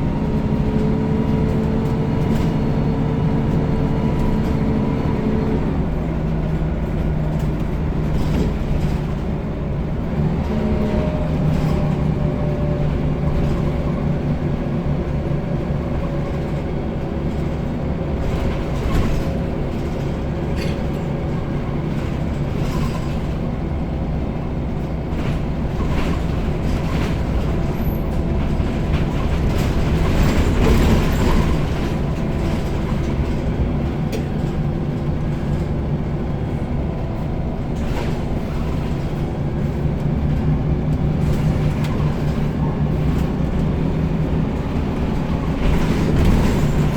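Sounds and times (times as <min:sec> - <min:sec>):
bus diesel engine droning: 0:00.0 - 0:46.9
rattles and knocks from bus body: 0:00.0 - 0:46.9.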